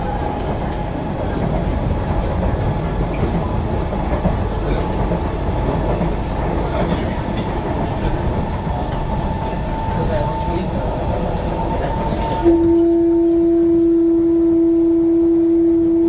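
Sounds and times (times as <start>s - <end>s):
steady train whine: 0.0s - 16.0s
wheels rumbling on rail: 0.0s - 16.0s.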